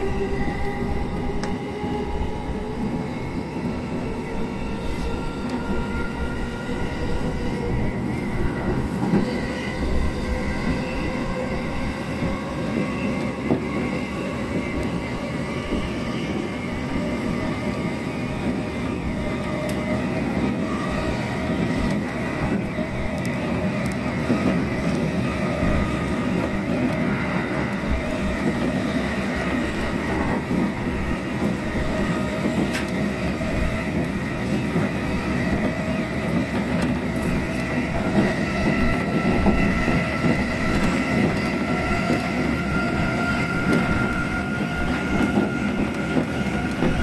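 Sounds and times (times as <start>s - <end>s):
rumble of wheels on rail: 0.0s - 47.0s.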